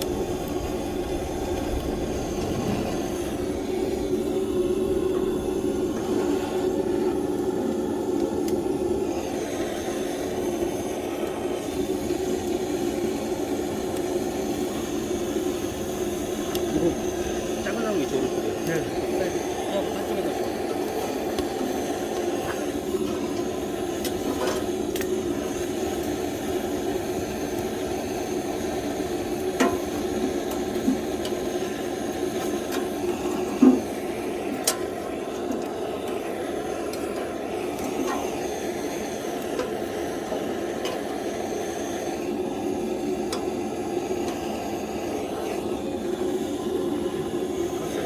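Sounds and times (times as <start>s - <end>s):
fire crackling and knocking: 0.0s - 48.0s
fire rushing in wood stove: 0.0s - 48.0s.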